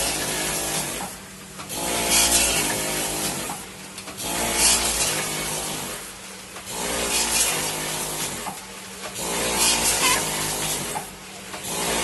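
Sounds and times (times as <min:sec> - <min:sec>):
clattering machine noise: 0:00.0 - 0:12.0.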